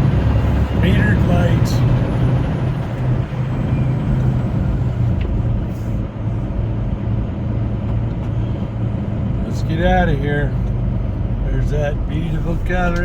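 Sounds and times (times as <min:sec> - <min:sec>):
diesel engine pulsing drone: 0:00.0 - 0:13.0.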